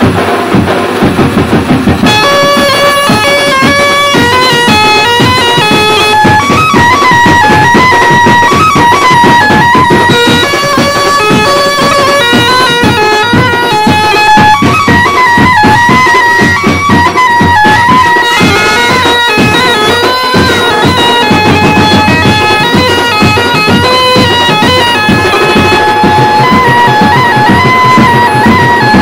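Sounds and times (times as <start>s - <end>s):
music with steady drum beat: 0.0s - 29.0s
plucked string melody: 1.9s - 29.0s.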